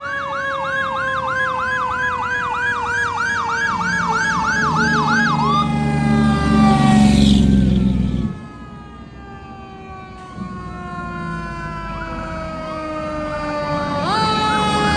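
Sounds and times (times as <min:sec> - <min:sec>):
electronic siren yelping: 0:00.0 - 0:14.9
siren tone sliding down: 0:00.0 - 0:14.9.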